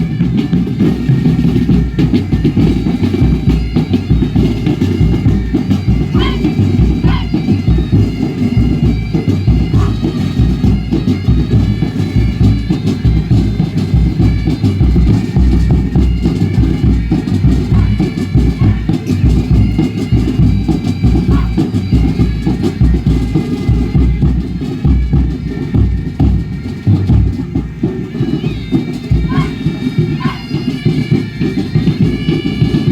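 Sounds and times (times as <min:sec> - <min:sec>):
loud music with heavy drum beat: 0:00.0 - 0:32.9.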